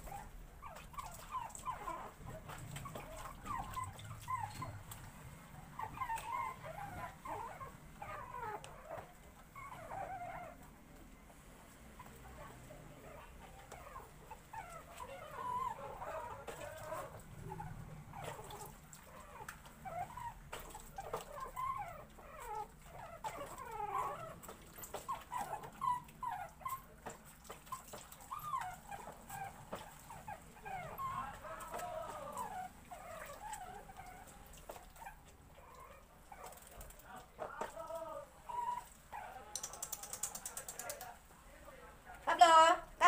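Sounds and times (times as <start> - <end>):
puppies whining: 0.0 - 10.7, 13.1 - 41.1.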